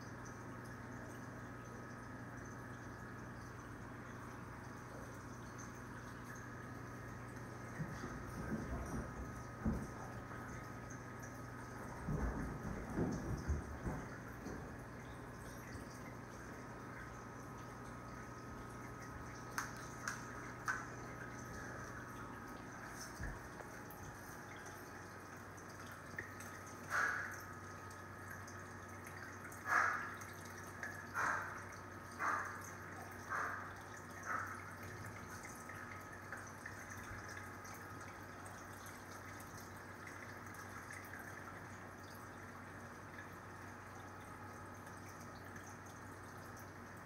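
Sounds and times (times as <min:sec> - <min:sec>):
low steady hum: 0:00.0 - 0:47.0
water trickling and dripping: 0:00.0 - 0:47.0.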